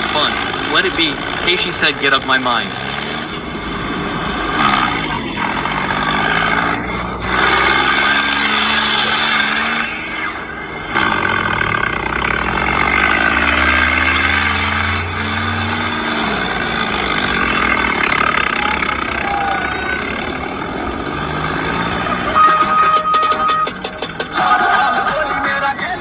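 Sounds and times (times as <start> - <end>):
heavy vehicle engine revving: 0.0 - 26.0.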